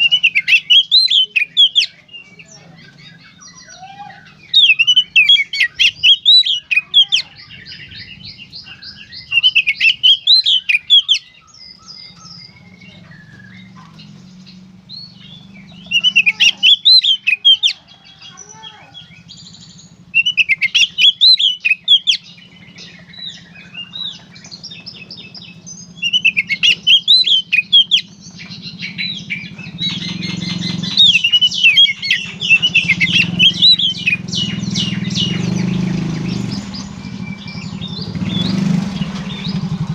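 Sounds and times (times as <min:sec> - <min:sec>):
bird singing rapid warbling: 0:00.0 - 0:39.9.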